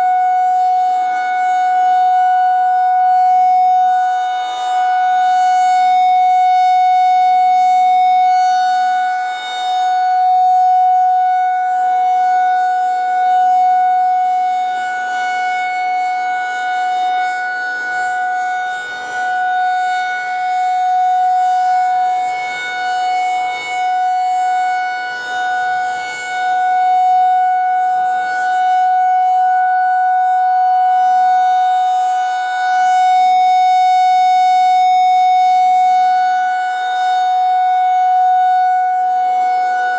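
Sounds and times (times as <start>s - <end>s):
rotating siren steady tone: 0.0s - 39.9s.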